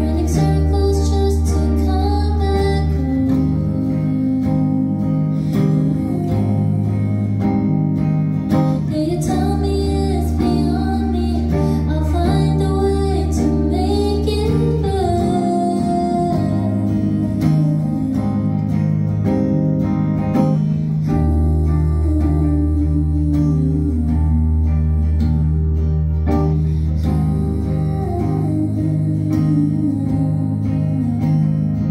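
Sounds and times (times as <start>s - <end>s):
woman singing: 0.0s - 19.6s, 20.5s - 31.9s
electric guitar chords: 0.0s - 31.9s.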